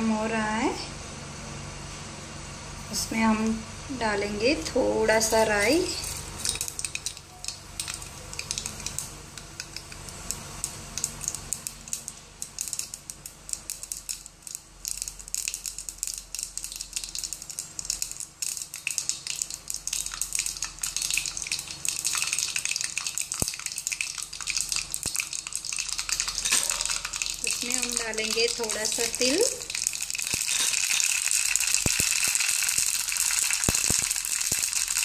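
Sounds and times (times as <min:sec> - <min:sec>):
mustard seeds popping in hot oil: 0:05.2 - 0:35.0.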